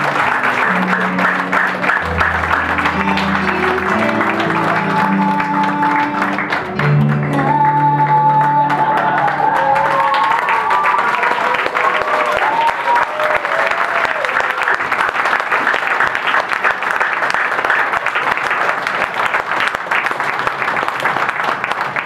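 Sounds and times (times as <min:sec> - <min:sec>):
audience clapping: 0:00.0 - 0:22.0.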